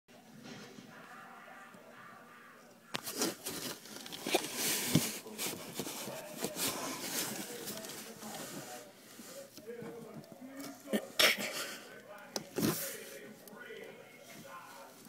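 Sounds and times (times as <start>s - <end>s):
rustling and scratching: 2.9s - 15.0s.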